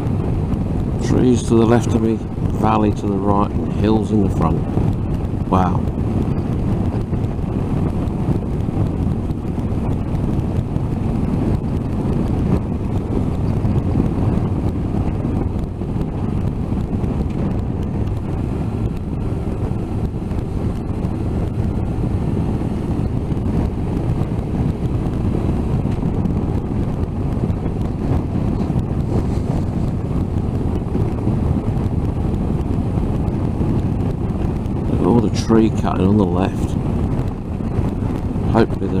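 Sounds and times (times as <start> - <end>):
road noise: 0.0 - 39.0
wind rushing over microphone: 0.0 - 39.0.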